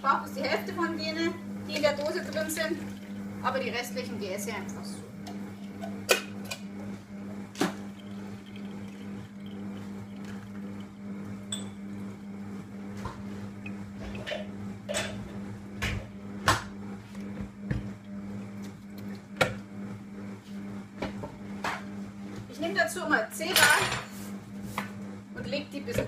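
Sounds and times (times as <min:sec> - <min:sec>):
kitchen machine humming: 0:00.0 - 0:26.0.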